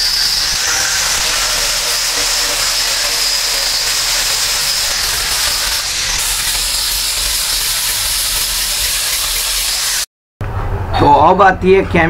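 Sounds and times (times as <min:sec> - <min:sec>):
angle grinder grinding bricks: 0:00.0 - 0:10.1.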